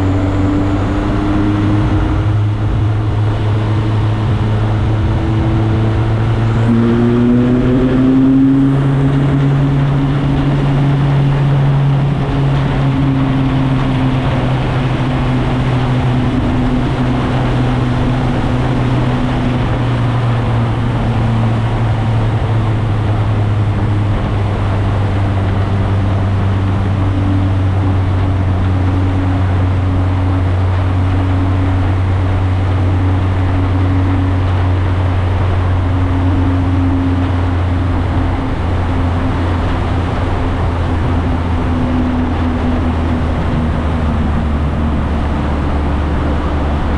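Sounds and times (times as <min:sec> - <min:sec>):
motorcycle engine accelerating: 0:00.0 - 0:46.9
wind and road noise: 0:00.0 - 0:46.9.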